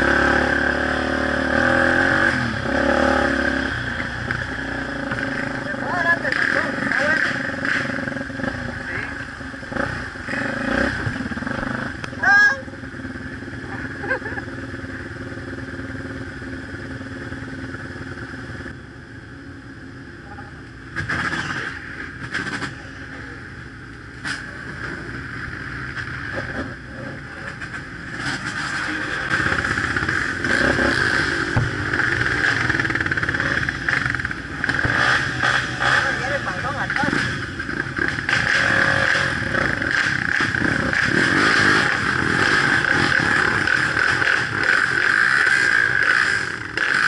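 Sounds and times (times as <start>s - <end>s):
dirt bike engines running: 0.0s - 18.9s, 20.5s - 47.0s.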